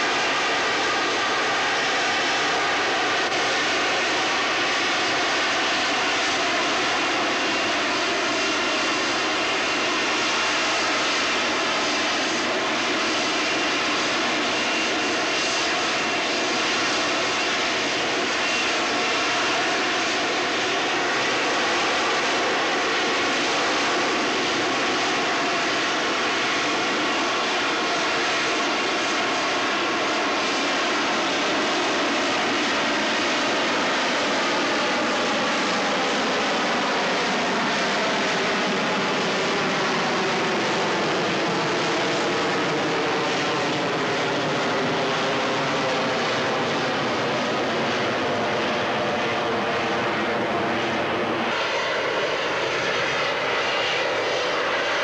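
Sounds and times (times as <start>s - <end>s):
jet engine hovering roar: 0.0s - 55.0s.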